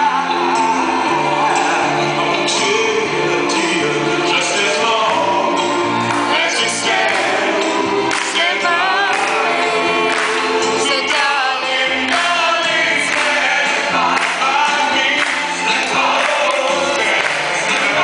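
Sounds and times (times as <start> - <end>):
choir singing with vibrato: 0.0 - 18.0.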